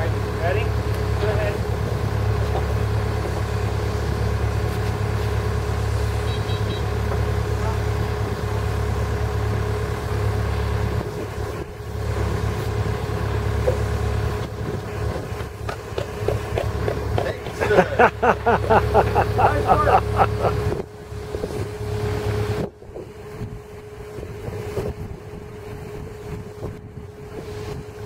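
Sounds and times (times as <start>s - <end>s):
low mechanical rumble: 0.0s - 28.0s.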